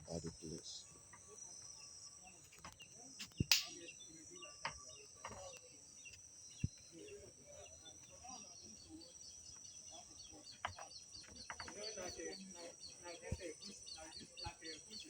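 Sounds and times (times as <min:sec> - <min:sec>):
crickets chirring: 0:00.0 - 0:15.0
distant voices: 0:00.0 - 0:15.0.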